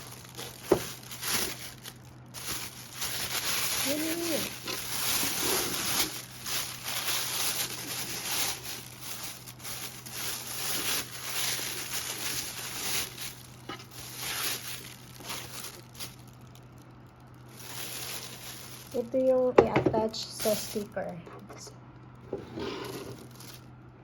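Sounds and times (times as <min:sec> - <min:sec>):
plastic packaging crinkling: 0:00.0 - 0:23.7.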